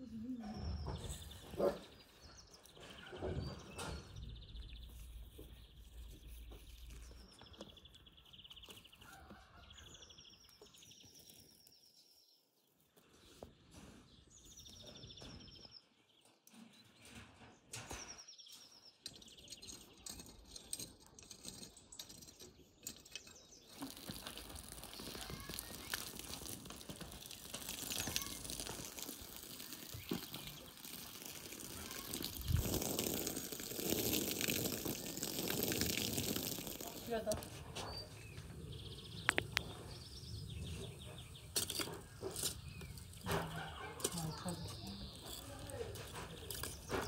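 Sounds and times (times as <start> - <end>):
songbirds trilling: 0.0 - 12.3, 17.7 - 47.0.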